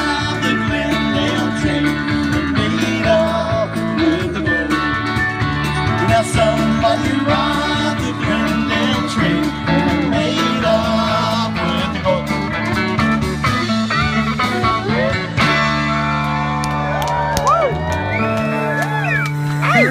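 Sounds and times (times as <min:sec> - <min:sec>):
drums: 0:00.0 - 0:19.9
electric guitars: 0:00.0 - 0:19.9.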